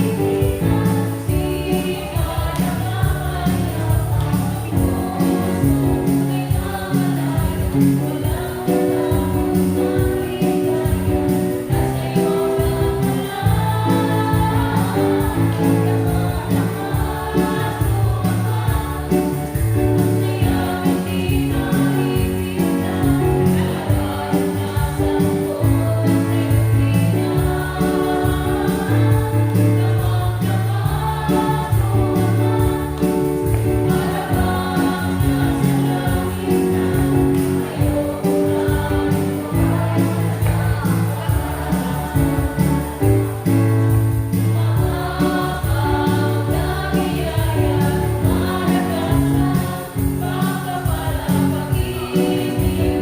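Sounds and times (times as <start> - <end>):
bass line: 0.0 - 53.0
gospel choir singing: 0.0 - 53.0
steady beat: 0.0 - 53.0.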